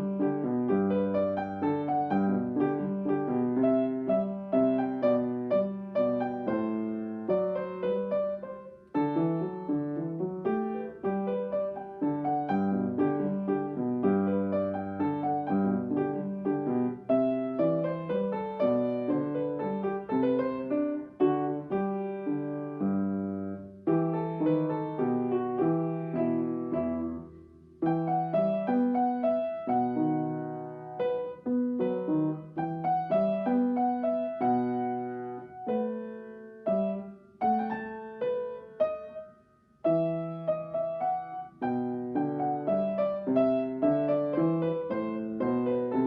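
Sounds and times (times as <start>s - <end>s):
slow solo piano melody: 0.0s - 46.0s.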